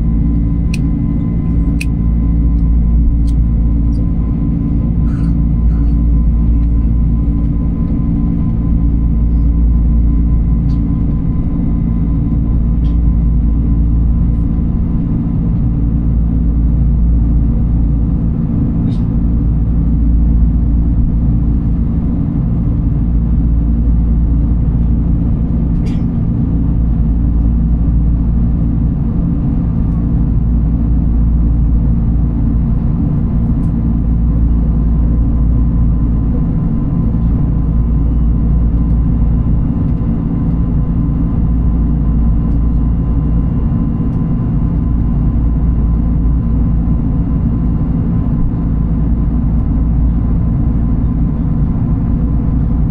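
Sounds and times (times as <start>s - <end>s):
faint steady hum: 0.0s - 52.9s
vehicle rumble from inside cabin: 0.0s - 52.9s.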